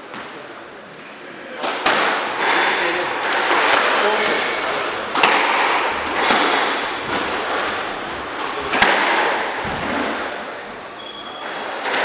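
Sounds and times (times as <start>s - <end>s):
ball hitting court walls: 1.6s - 12.0s
racket striking squash ball: 1.6s - 12.0s.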